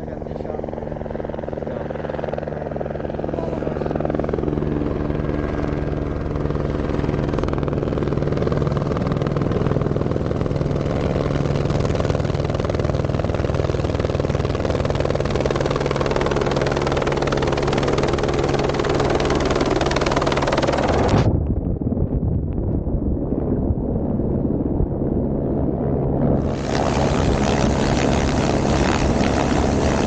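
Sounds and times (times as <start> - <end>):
helicopter rotor beat: 0.0 - 22.0, 23.2 - 30.0.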